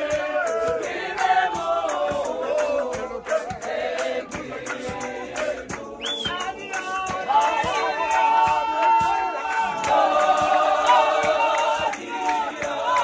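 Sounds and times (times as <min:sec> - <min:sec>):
group singing gospel song: 0:00.0 - 0:13.0
hand claps: 0:00.0 - 0:13.0.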